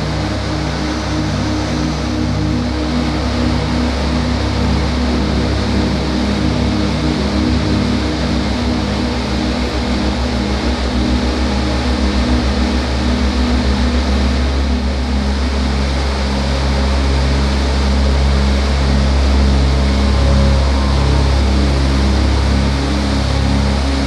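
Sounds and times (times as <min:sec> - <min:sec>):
jet roaring in flight: 0:00.0 - 0:24.0
music with low bass line: 0:00.0 - 0:24.0.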